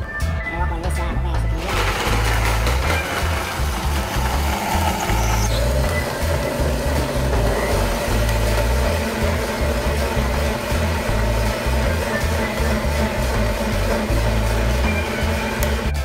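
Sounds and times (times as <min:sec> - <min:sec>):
bass-heavy music: 0:00.0 - 0:16.0
blender running: 0:01.6 - 0:16.0.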